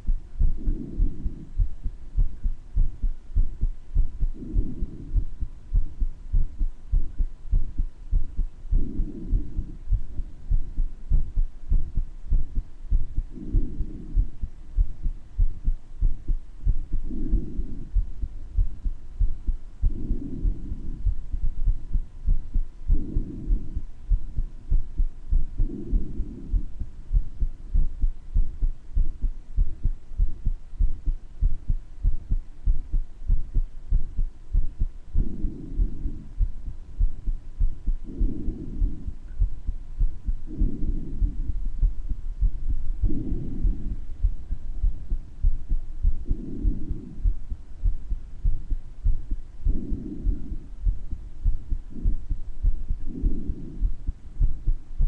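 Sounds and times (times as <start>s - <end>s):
breath sounds: 0.0s - 55.0s
heartbeat thumps: 0.0s - 55.0s.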